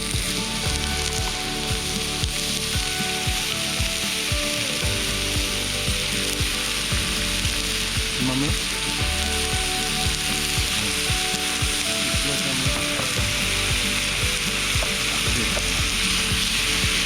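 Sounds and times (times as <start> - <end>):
campfire crackling and hissing: 0.0 - 17.0.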